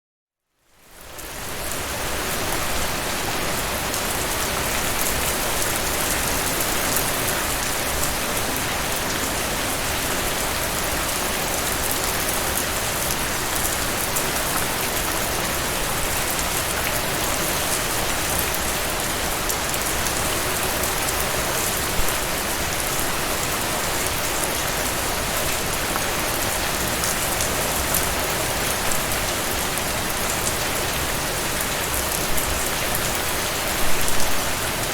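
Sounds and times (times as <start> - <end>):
steady rain falling: 0.6 - 34.9.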